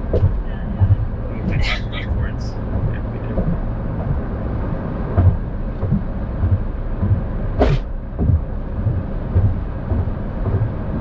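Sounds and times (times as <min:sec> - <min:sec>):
car road and engine rumble: 0:00.0 - 0:11.0
low thumps: 0:00.0 - 0:11.0.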